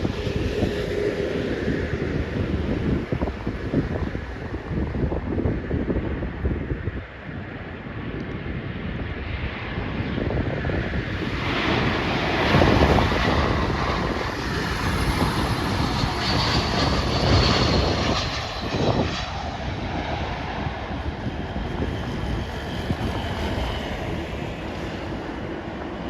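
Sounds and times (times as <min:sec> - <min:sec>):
jet airliner engine noise: 0:00.0 - 0:26.0
wind buffeting microphone: 0:00.0 - 0:26.0.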